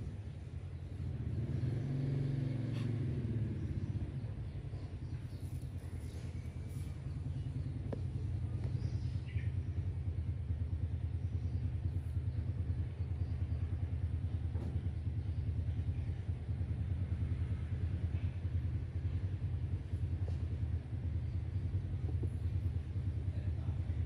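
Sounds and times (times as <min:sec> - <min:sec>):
motor rumbling with fast pulse: 0:00.0 - 0:24.0.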